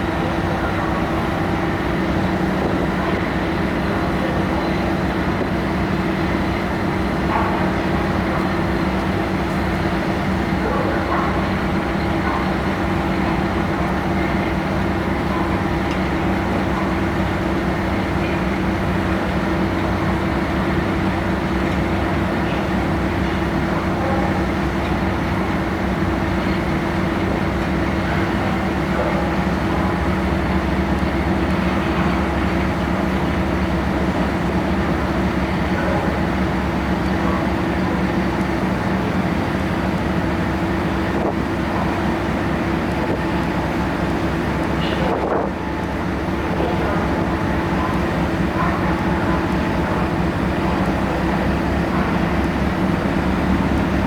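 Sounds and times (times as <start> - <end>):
ferry engines droning: 0.0 - 54.0.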